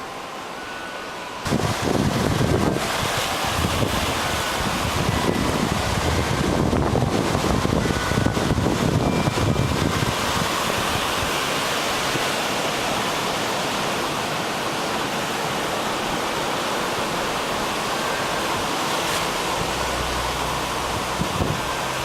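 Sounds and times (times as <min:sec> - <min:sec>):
sea surf rushing: 0:00.0 - 0:22.0.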